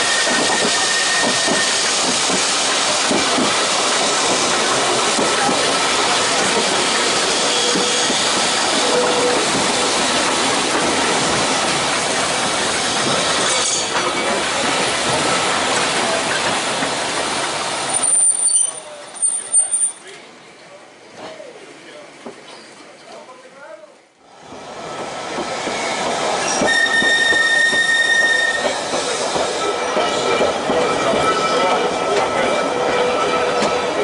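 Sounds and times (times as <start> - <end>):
steel tram wheels rumbling on rails: 0.0 - 20.2, 24.4 - 34.0.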